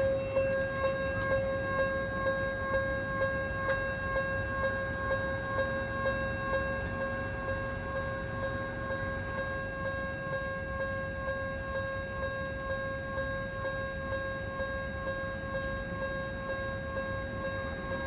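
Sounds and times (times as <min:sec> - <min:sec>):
level-crossing warning alarm ringing: 0:00.0 - 0:18.0.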